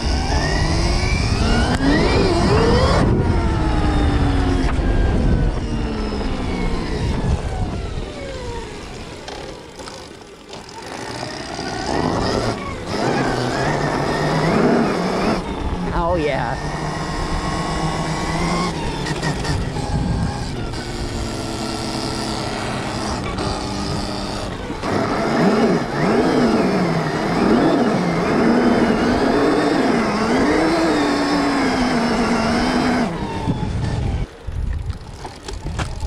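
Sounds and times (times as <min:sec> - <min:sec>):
electric dirt bike motor whining: 0:00.0 - 0:36.0.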